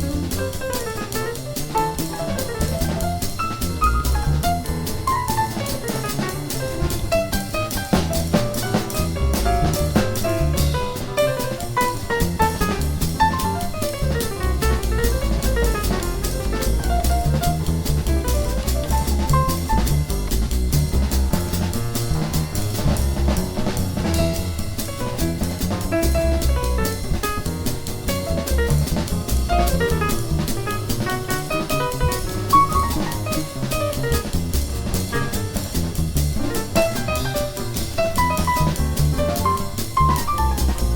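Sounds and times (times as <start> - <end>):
acoustic piano: 0.0 - 40.9
double bass: 0.0 - 40.9
drum kit cymbals: 0.0 - 40.9.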